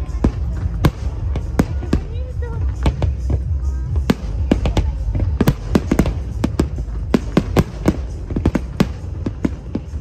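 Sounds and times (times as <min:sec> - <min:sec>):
fireworks bangs and crackles: 0:00.0 - 0:10.0
steady low rumble: 0:00.0 - 0:10.0.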